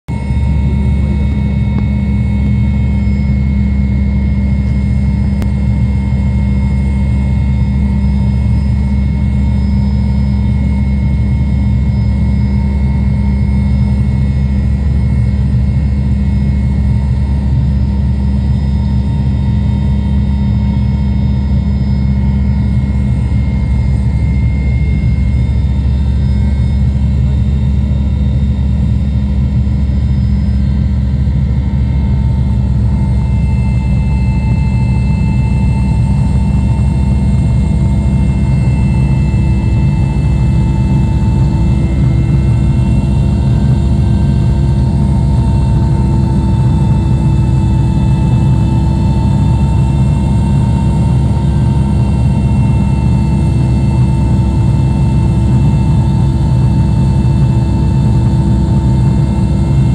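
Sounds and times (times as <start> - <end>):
helicopter rotor and engine drone: 0.1 - 59.9
high whine: 0.1 - 59.9.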